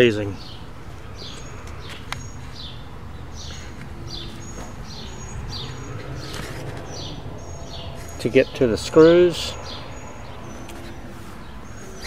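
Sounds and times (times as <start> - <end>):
low outdoor background rumble: 0.5 - 12.0.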